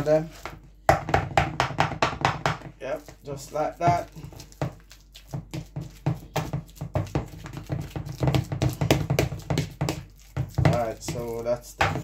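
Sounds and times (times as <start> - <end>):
masher mashing bananas in bowl: 0.0 - 12.0.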